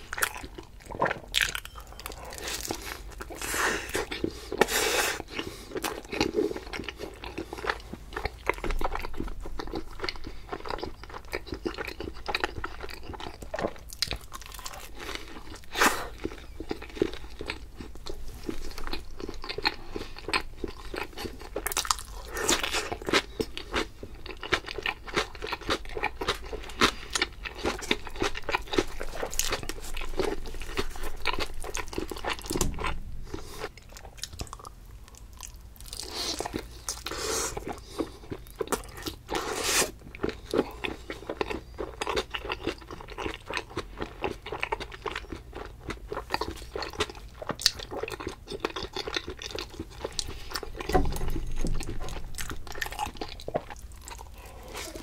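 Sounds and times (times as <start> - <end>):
biting and chewing pizza: 0.0 - 55.0.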